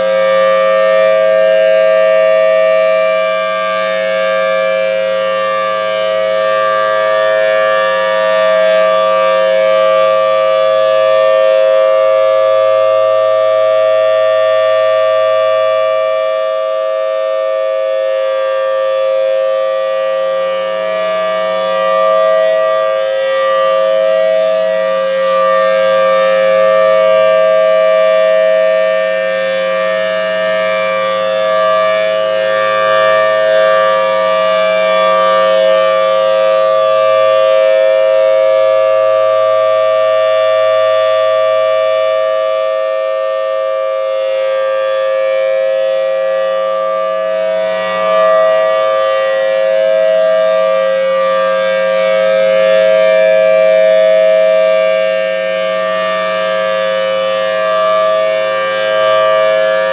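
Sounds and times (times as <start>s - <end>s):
tornado siren steady tone: 0.0s - 59.9s.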